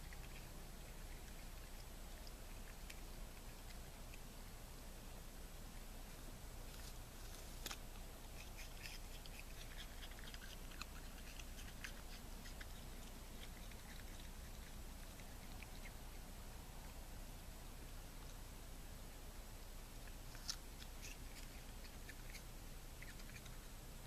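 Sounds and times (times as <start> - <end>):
low hiss: 0.0 - 24.0
raccoon chewing apple: 0.0 - 24.0.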